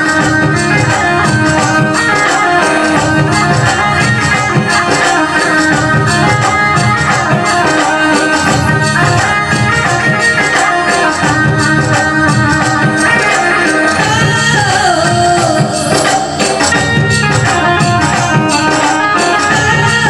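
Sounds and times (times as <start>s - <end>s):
jingling percussion: 0.0s - 20.0s
sustained folk melody: 0.0s - 20.0s.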